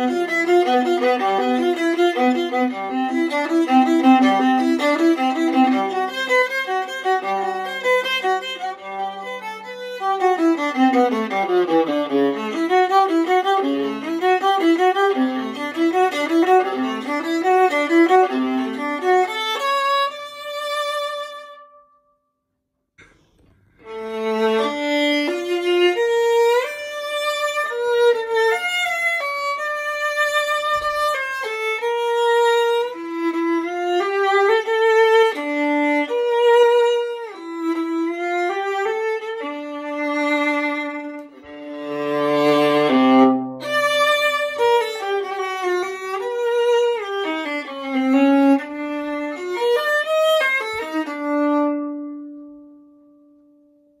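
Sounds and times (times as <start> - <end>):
viola played with a bow: 0.0 - 22.3, 23.7 - 54.0.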